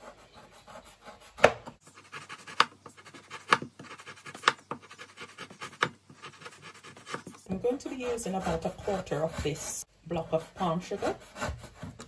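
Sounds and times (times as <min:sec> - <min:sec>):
knife scraping sugar block: 0:00.0 - 0:12.0.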